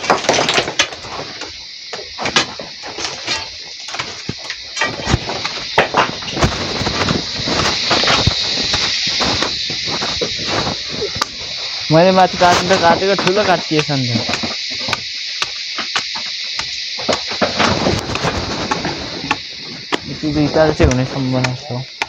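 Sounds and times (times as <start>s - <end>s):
knocks and clatters: 0.0s - 11.4s, 12.4s - 21.6s
steady high hiss: 0.0s - 22.0s.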